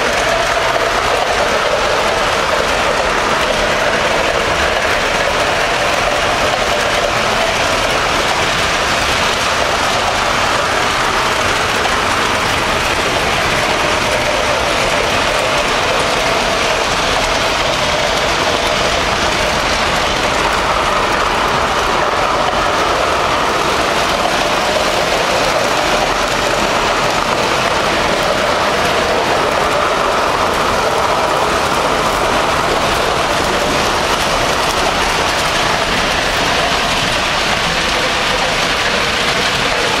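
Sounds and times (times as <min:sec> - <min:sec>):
model train wheels rumbling on rail: 0:00.0 - 0:40.0.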